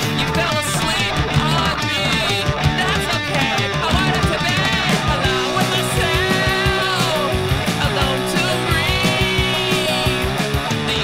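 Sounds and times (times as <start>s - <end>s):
drum beat: 0.0s - 11.0s
electric guitars: 0.0s - 11.0s.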